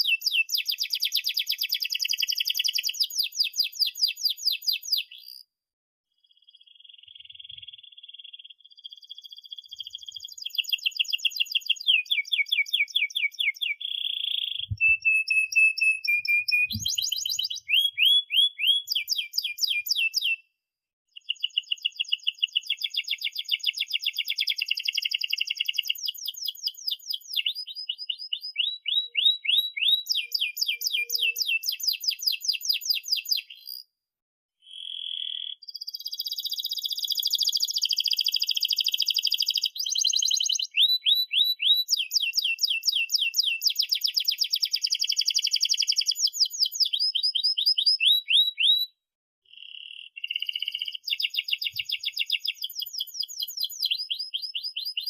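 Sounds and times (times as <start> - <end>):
canary singing: 0.0 - 5.4, 6.5 - 20.4, 21.2 - 33.8, 34.7 - 48.9, 49.5 - 55.0.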